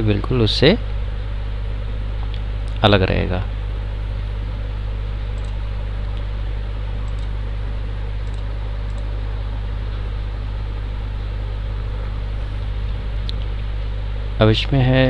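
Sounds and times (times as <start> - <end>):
low electrical hum with hiss: 0.0 - 15.0.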